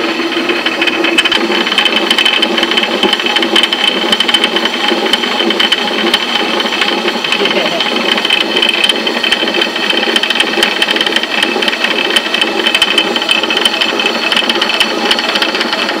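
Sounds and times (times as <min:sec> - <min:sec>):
stone flour mill rattling: 0:00.0 - 0:16.0.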